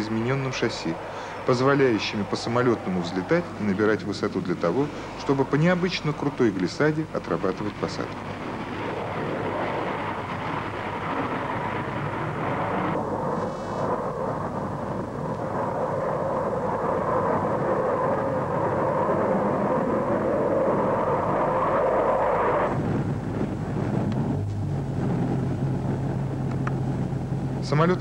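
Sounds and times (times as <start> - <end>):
jet engines rushing: 0.0 - 28.0
steady low hum: 0.0 - 28.0.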